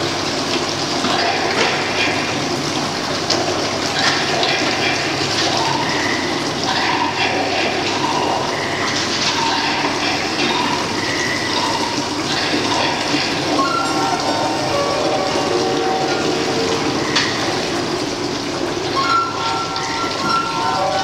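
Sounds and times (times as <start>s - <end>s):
water pouring into metal buckets: 0.0s - 21.0s.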